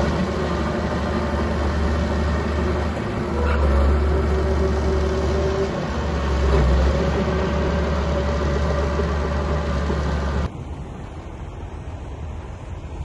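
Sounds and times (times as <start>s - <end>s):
bulldozer engine rumbling: 0.0s - 13.0s.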